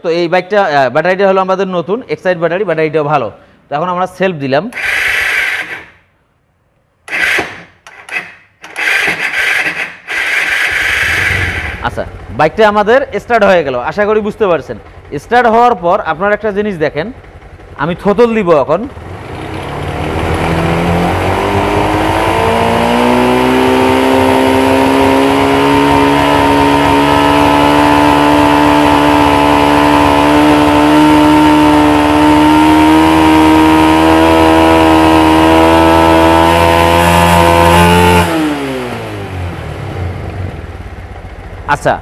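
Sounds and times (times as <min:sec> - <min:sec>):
motorcycle engine revving: 0:07.1 - 0:42.0.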